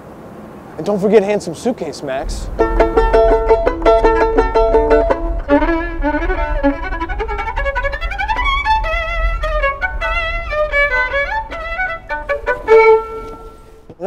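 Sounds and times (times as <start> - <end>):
solo violin melody: 2.4 - 14.0.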